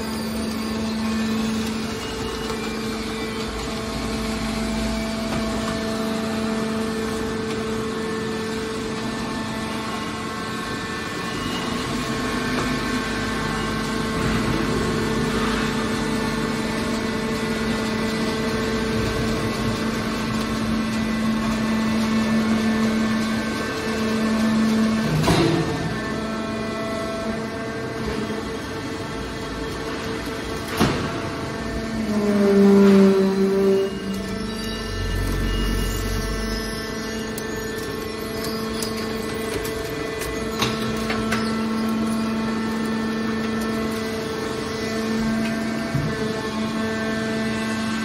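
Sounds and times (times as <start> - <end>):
machine hum: 0.0 - 48.0.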